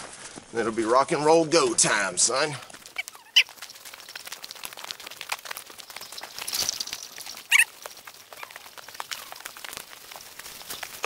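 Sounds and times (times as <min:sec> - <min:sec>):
footsteps crunching on leaves: 0:00.0 - 0:11.0
leaves rustling: 0:00.0 - 0:11.0.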